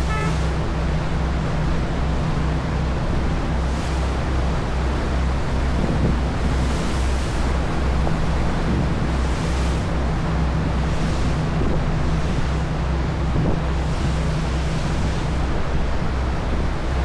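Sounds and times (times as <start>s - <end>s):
low engine drone: 0.0s - 17.0s
wake water rushing: 0.0s - 17.0s
wind buffeting microphone: 0.0s - 17.0s.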